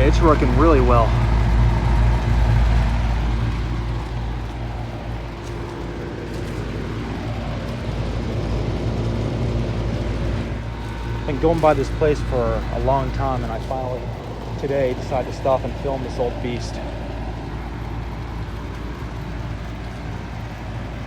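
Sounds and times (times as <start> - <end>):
compressor electrical hum: 0.0 - 21.0
fan rushing: 0.0 - 21.0.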